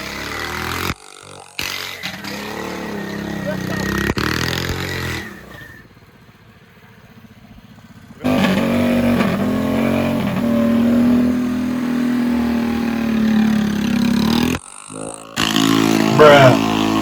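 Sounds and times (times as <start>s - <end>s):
mini bike engine revving: 0.0s - 17.0s.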